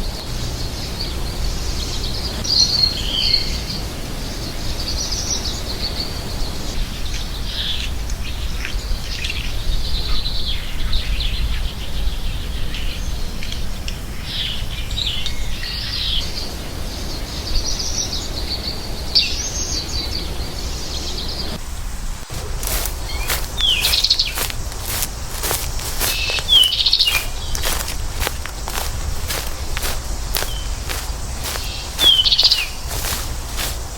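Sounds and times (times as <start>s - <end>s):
bird singing twittering song: 0.0s - 33.9s.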